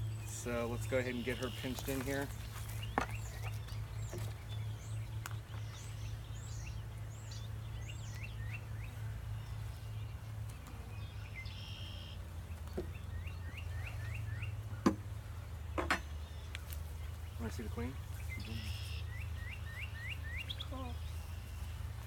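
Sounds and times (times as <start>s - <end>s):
bird chirping: 0.0s - 22.0s
steady low hum: 0.0s - 22.0s.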